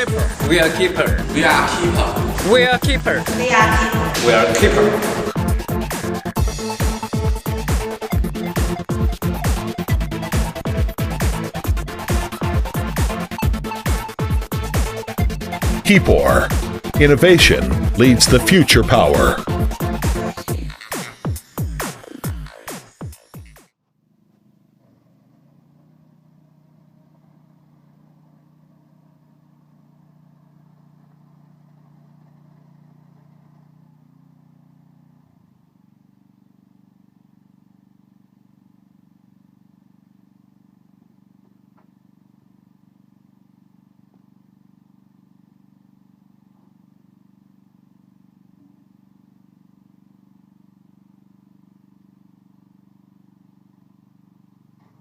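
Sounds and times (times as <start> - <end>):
generator engine running: 0.0 - 55.0.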